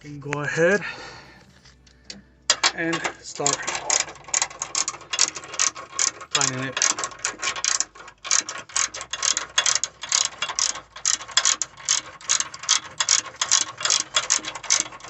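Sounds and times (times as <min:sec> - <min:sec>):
hand ratchet clicking: 0:01.9 - 0:15.0.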